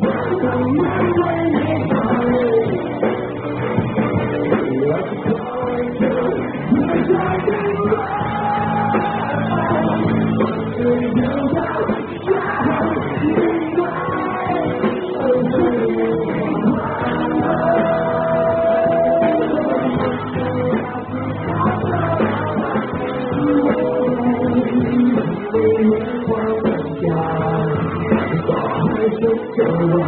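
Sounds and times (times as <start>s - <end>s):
lead singer vocal: 0.0s - 3.5s, 4.4s - 30.0s
bass: 0.0s - 30.0s
drums: 0.0s - 30.0s
strummed guitars: 0.0s - 30.0s.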